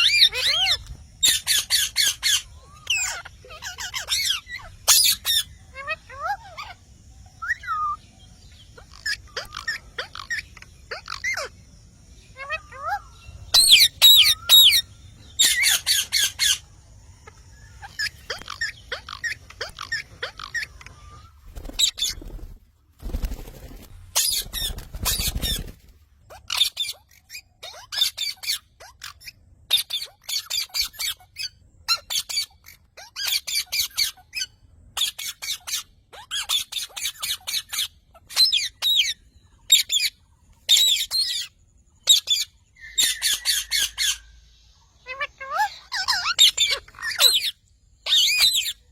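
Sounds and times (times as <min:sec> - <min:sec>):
parrot squawking: 0:00.0 - 0:06.8, 0:08.7 - 0:11.6, 0:12.4 - 0:22.2, 0:26.3 - 0:44.3, 0:45.0 - 0:48.9.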